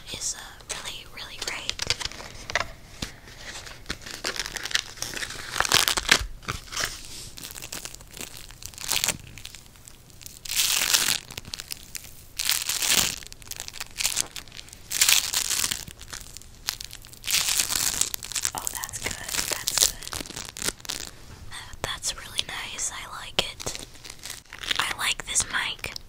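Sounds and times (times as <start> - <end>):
crumbly lump crunching: 1.4 - 21.3, 23.6 - 24.8.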